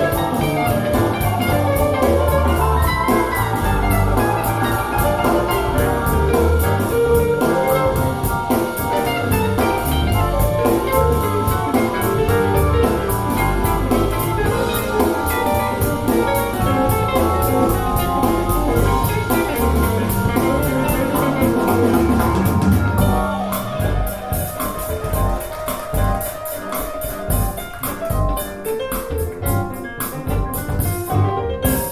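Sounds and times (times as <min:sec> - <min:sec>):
instrumental music with drum kit: 0:00.0 - 0:31.9.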